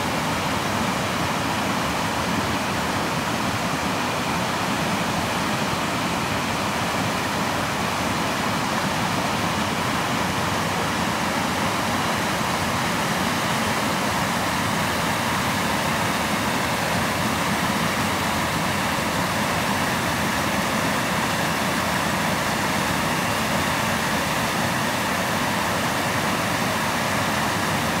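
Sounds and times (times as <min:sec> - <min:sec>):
creek water rushing: 0:00.0 - 0:28.0
small waterfall spilling: 0:00.0 - 0:28.0.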